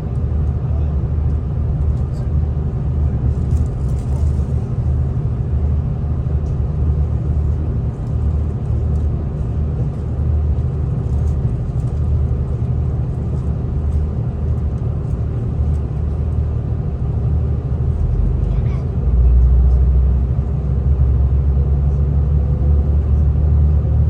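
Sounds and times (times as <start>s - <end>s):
diesel train rumble: 0.0s - 24.0s.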